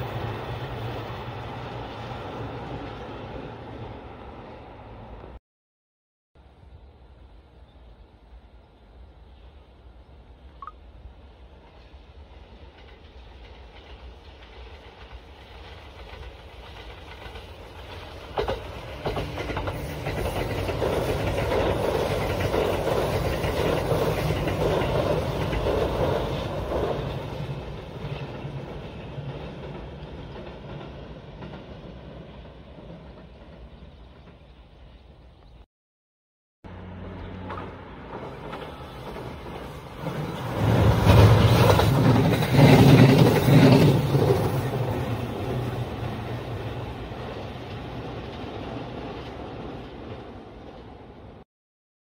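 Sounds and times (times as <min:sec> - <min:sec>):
train rumbling on rails: 0:00.0 - 0:05.4, 0:06.4 - 0:35.7, 0:36.7 - 0:51.4.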